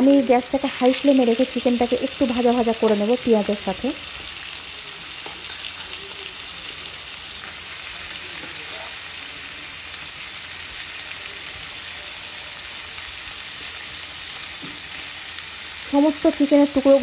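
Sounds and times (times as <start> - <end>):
chicken and onion sizzling in oil: 0.0 - 17.0.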